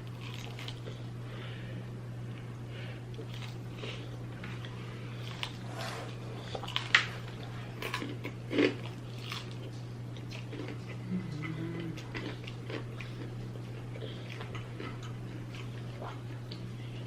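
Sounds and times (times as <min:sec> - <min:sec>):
chewing and mouth smacking: 0:00.0 - 0:01.0, 0:03.1 - 0:05.6, 0:06.4 - 0:16.7
steady low hum: 0:00.0 - 0:17.0.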